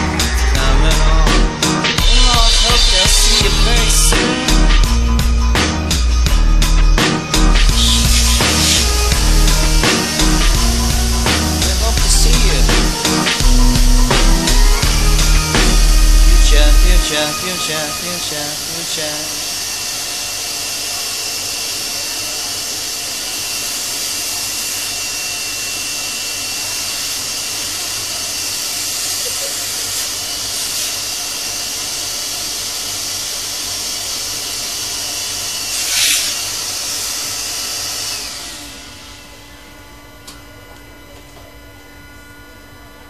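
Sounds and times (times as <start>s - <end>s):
power saw cutting wood: 0.0s - 39.6s.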